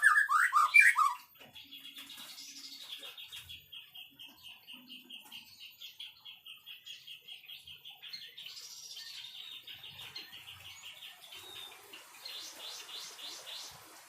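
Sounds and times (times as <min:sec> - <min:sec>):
bird singing chirps and warble: 0:00.0 - 0:14.0.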